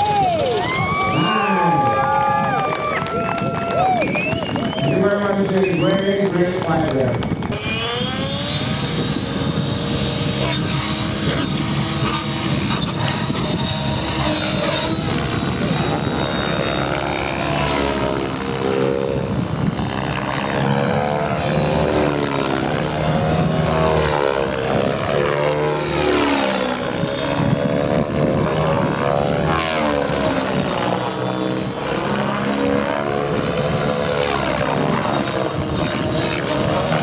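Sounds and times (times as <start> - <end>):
model helicopter rotor and motor whine: 0.0 - 37.0.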